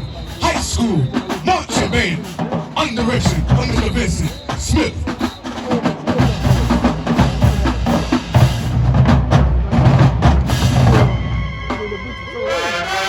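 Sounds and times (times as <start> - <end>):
drumline playing snare and bass: 0.0 - 13.0.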